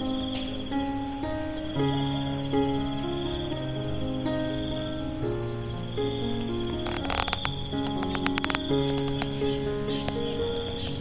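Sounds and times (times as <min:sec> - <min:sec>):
crickets chirping: 0:00.0 - 0:11.0
gentle background music: 0:00.0 - 0:11.0.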